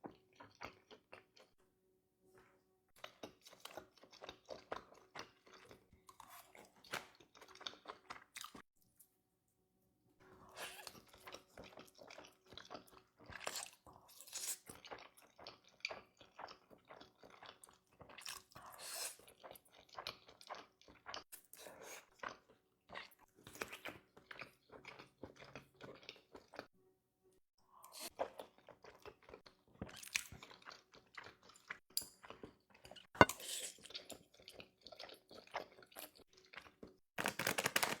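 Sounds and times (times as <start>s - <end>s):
person chewing noodles: 0.1s - 1.6s, 3.0s - 8.6s, 10.5s - 26.7s, 27.7s - 37.0s.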